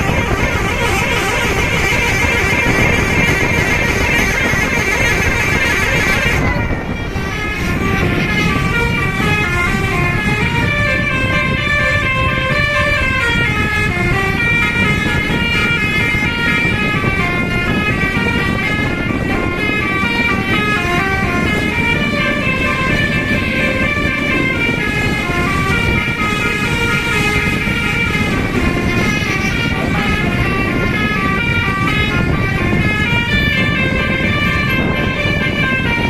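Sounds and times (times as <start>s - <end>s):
multi-tone bus horn melody: 0.0s - 36.0s
steady low rumble: 0.0s - 36.0s.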